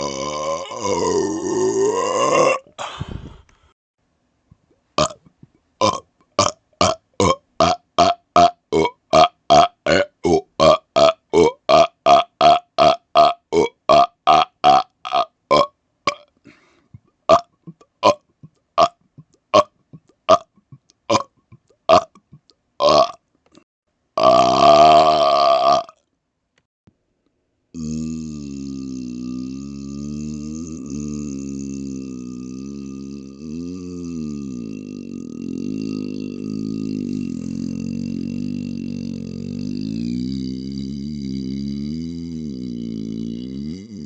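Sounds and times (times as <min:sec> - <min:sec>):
man burping: 0:00.0 - 0:03.4, 0:05.0 - 0:23.2, 0:24.2 - 0:26.0, 0:27.8 - 0:44.0.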